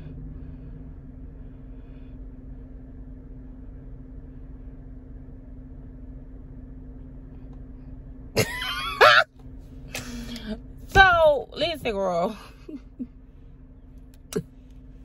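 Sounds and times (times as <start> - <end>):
car engine running inside cabin: 0.0 - 15.0.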